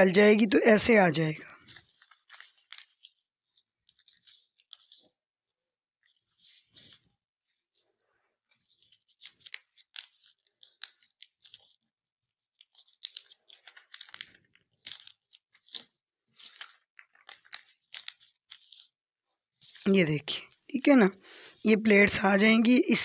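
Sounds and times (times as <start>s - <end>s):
paper crackling and rustling: 0.8s - 5.3s, 6.0s - 20.9s.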